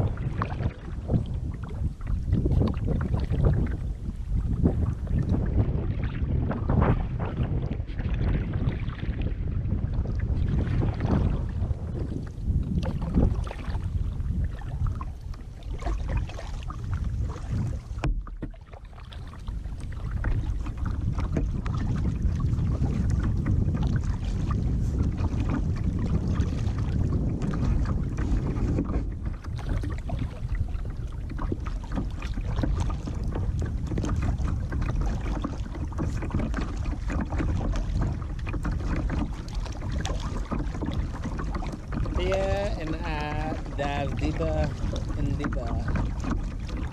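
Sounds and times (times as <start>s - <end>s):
water splashing around kayak: 0.0s - 46.9s
wind rumble on microphone: 0.0s - 46.9s.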